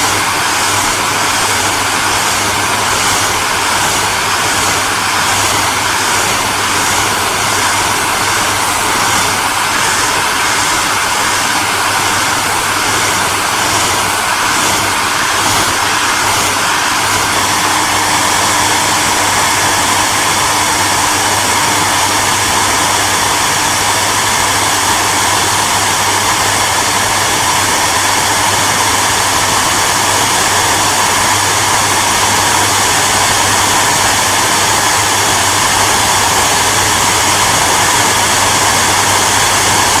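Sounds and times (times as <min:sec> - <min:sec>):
hair dryer running: 0:00.0 - 0:40.0.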